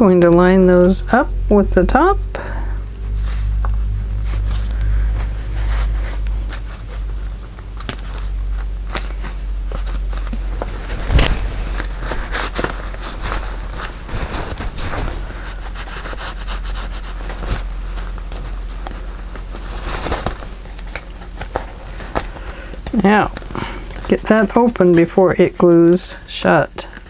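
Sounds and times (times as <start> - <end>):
steady low hum: 0.0 - 27.0
paper rustling and crinkling: 3.0 - 27.0.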